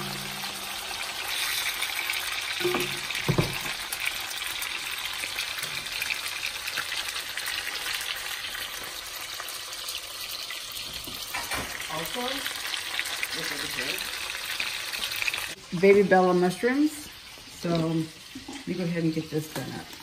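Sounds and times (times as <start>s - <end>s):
fish frying in oil: 0.0s - 20.0s.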